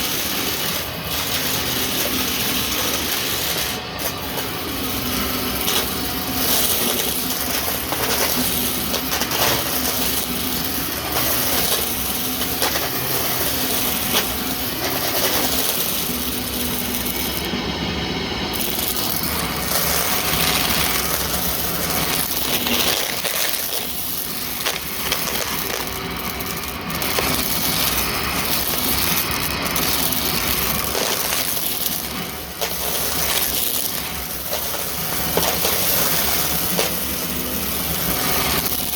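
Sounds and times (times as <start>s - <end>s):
debris clicking and rattling: 0.0s - 17.5s, 18.5s - 38.9s
vacuum cleaner running: 0.0s - 38.9s.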